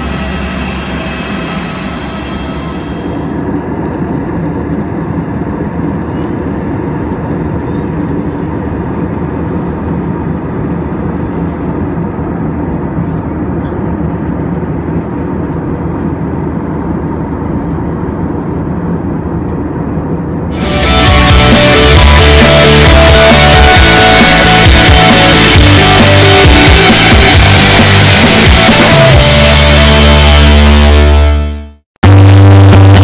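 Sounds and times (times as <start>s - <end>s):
airliner cabin roar: 0.0s - 33.0s.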